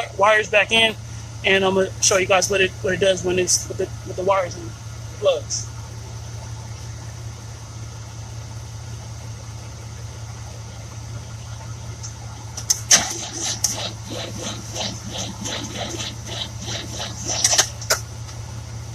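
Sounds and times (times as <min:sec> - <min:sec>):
car engine cranking slowly: 0:00.0 - 0:18.9
steady low hum: 0:00.0 - 0:18.9.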